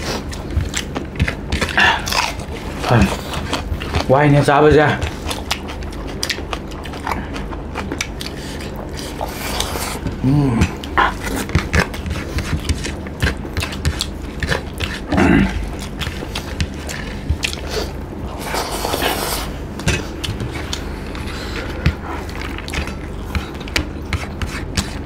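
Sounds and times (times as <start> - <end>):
chewing and lip smacking: 0.0 - 4.1, 4.9 - 25.0.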